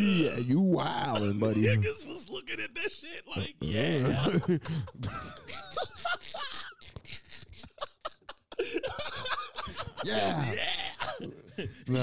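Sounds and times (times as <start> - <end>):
men laughing: 0.0 - 12.0.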